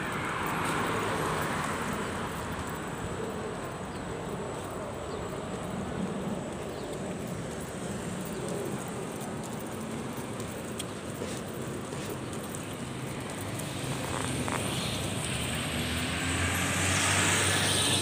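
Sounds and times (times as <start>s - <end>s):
car passing: 0.0s - 10.4s, 11.2s - 18.0s
background traffic: 0.0s - 18.0s.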